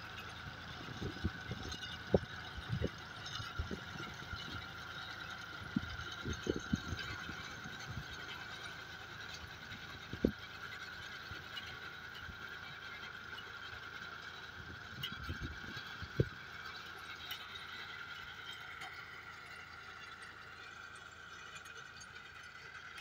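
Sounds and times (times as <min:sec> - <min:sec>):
tractor running: 0:00.0 - 0:23.0.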